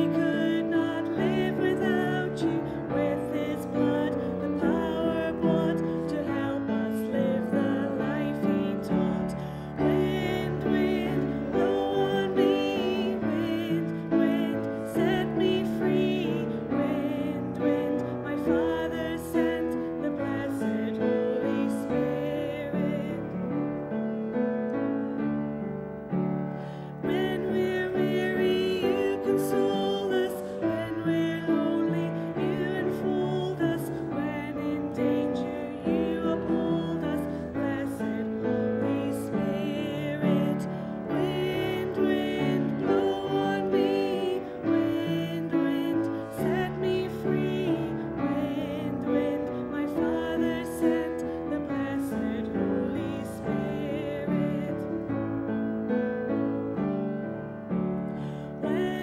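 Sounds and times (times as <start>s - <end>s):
hymn with piano: 0.0s - 59.0s.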